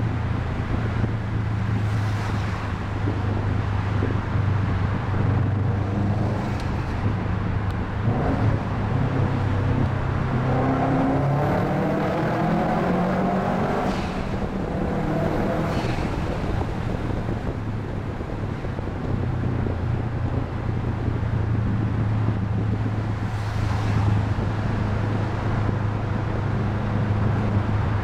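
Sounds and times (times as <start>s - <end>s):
car engine droning: 0.0s - 28.0s
road and wind noise: 0.0s - 28.0s.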